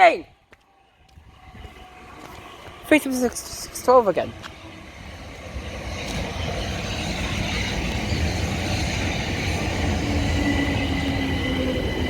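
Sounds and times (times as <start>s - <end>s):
train rumbling past: 0.1s - 12.0s
train whine: 0.4s - 12.0s.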